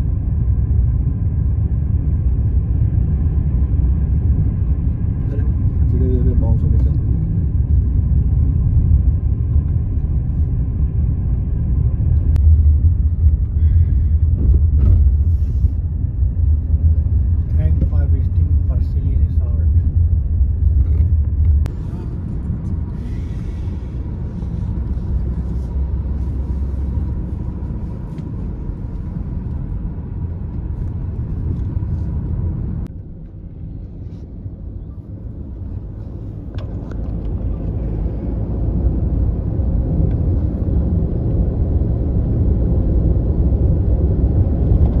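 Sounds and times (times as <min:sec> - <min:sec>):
car cabin road and engine noise: 0:00.0 - 0:45.0.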